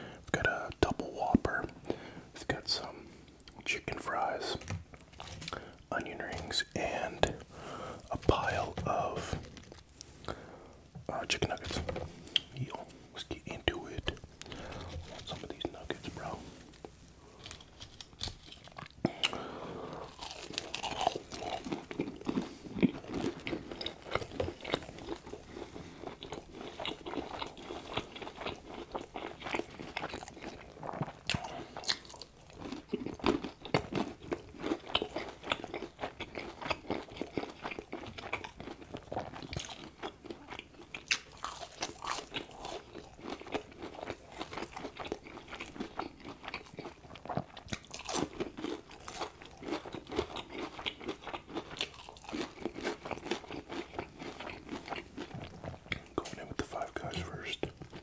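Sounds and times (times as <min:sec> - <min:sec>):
crunchy chewing of fried chicken: 0:11.1 - 0:58.0.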